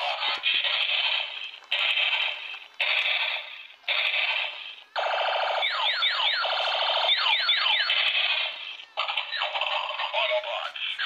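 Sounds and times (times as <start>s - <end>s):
toy electronic sound effects: 0.0s - 11.0s.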